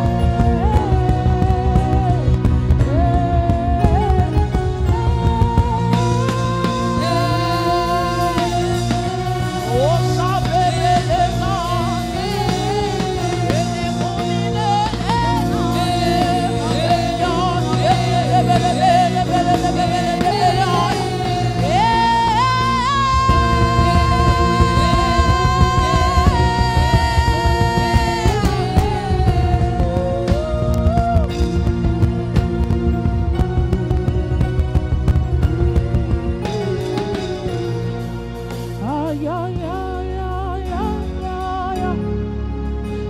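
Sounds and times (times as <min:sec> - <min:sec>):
backing singers: 0:00.0 - 0:41.9
woman singing lead: 0:00.0 - 0:42.4
band accompaniment: 0:00.0 - 0:43.0.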